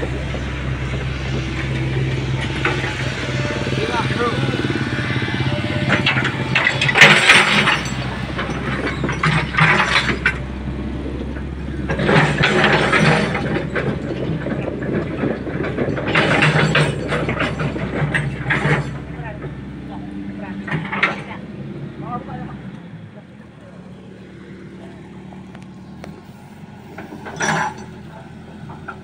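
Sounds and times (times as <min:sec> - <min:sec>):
engine running: 0:00.0 - 0:29.0
steel grating rattling and clanking: 0:00.0 - 0:29.0.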